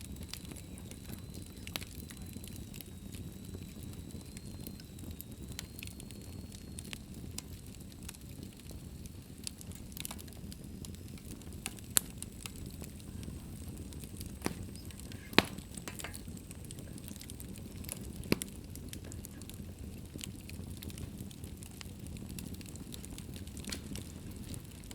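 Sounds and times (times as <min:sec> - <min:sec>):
sharp pops of burning wood: 0:00.0 - 0:24.9
wood fire crackling: 0:00.0 - 0:24.9.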